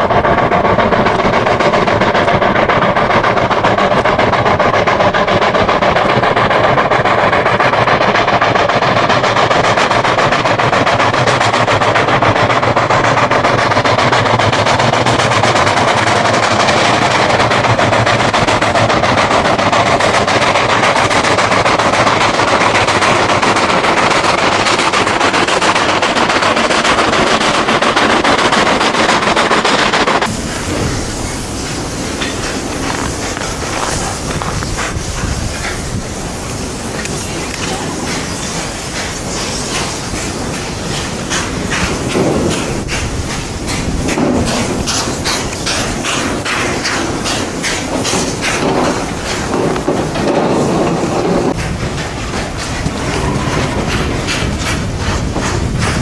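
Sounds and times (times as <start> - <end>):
steam locomotive chugging: 0.0 - 56.0.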